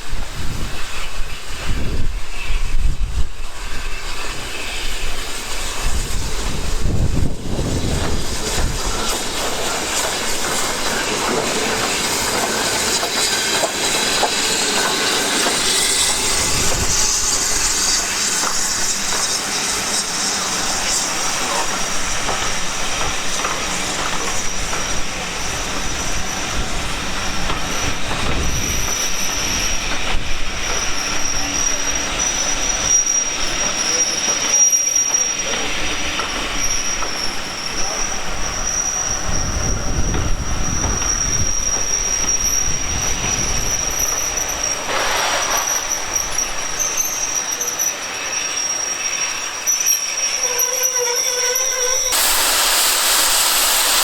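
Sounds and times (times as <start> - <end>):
train low rumble: 0.0 - 48.4
train wheels squealing on rails: 0.0 - 54.0.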